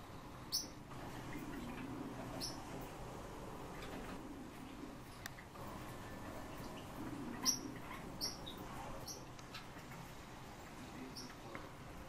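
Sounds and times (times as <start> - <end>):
cage birds chirping: 0.0 - 12.0.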